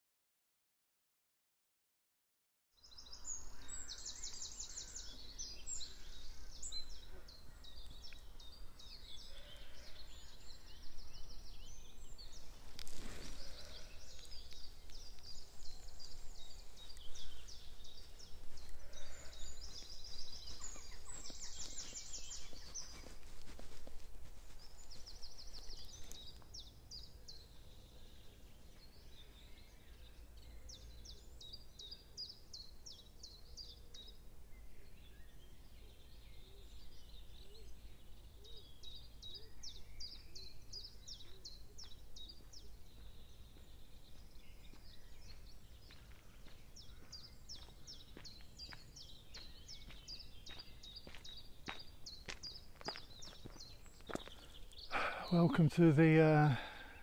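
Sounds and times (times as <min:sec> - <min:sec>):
songbirds singing: 0:02.8 - 0:57.0.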